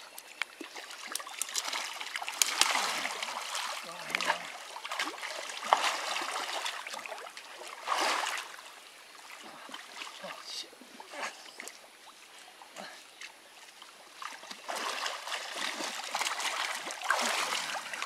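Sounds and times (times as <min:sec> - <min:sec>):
creek water splashing: 0:00.0 - 0:18.0.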